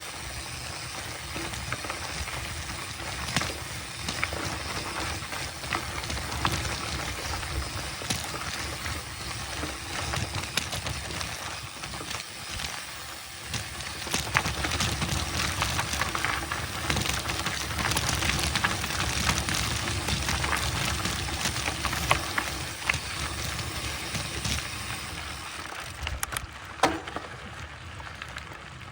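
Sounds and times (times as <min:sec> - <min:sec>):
bike clicks and rattles: 0:00.0 - 0:28.9
tyres rumbling on rough ground: 0:00.0 - 0:28.9.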